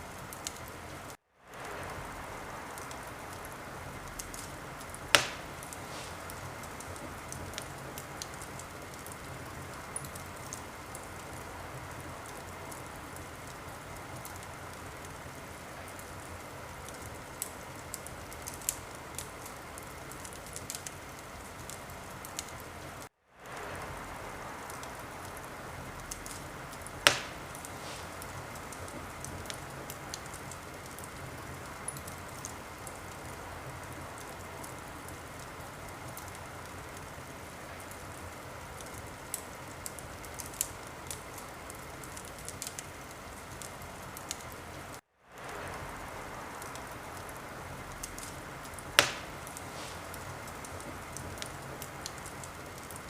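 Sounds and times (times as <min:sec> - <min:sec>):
wood fire hissing and crackling: 0:00.0 - 0:53.0.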